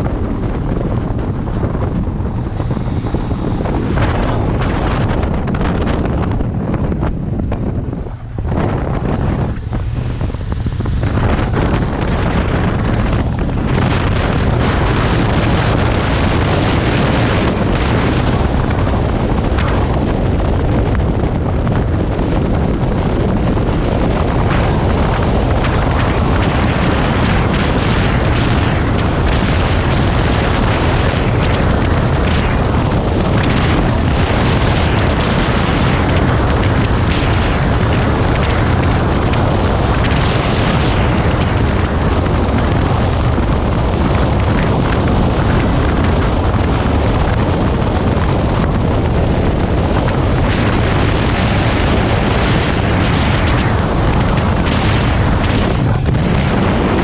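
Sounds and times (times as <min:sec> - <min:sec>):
motorcycle engine: 0:00.0 - 0:57.0
wind buffeting microphone: 0:00.0 - 0:57.0.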